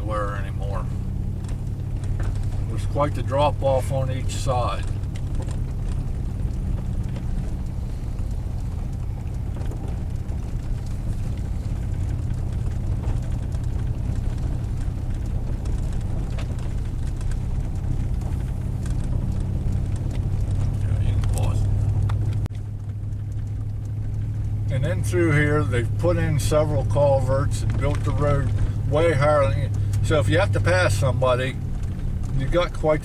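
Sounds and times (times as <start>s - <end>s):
truck engine and road drone: 0.0s - 33.0s
small knocks and rattles: 0.2s - 33.0s.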